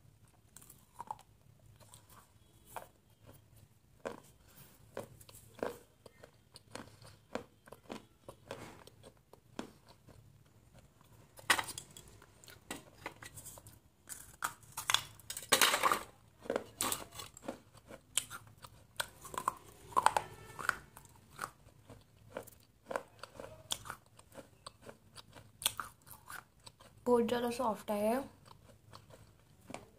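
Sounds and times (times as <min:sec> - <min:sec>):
biting and chewing clay pieces: 0:00.2 - 0:27.1, 0:28.2 - 0:29.9.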